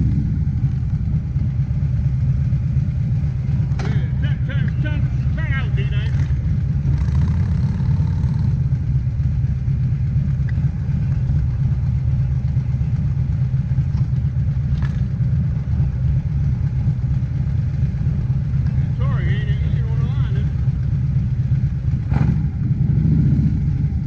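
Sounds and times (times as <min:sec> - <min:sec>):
motorcycle engine rumble: 0:00.0 - 0:24.0.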